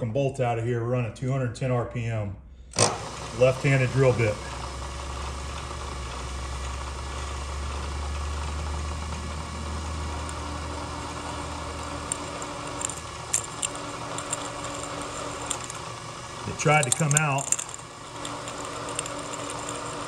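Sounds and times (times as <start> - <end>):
machine spindle hum: 2.8 - 20.0.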